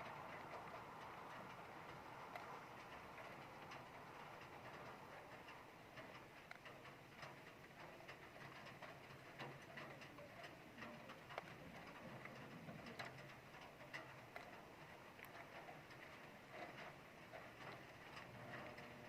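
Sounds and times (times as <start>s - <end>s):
drops ticking on surface: 0.0s - 19.0s
faint steady rain: 0.0s - 19.0s.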